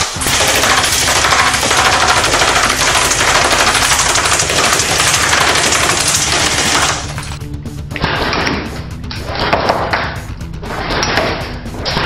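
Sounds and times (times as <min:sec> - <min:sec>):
pellets striking glass and board: 0:00.0 - 0:07.4, 0:08.0 - 0:12.0.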